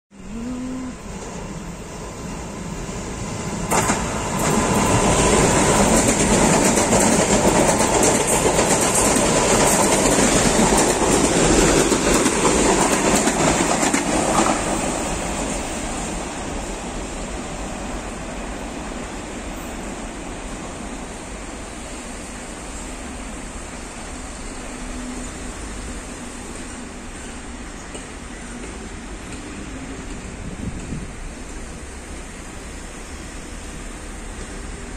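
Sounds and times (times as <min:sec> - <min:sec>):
train rumbling on rails: 0:00.1 - 0:34.9.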